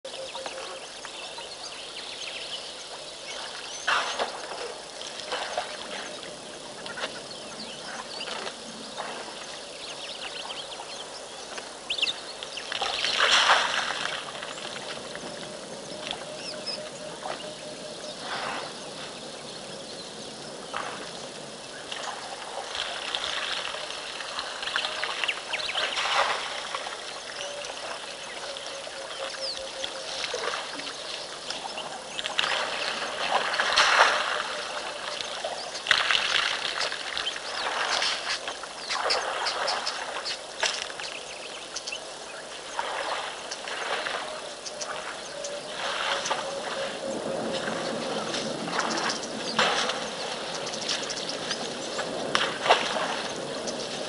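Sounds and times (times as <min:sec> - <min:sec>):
birds calling: 0:00.0 - 0:54.0
elephants splashing in water: 0:02.9 - 0:41.3, 0:42.6 - 0:54.0.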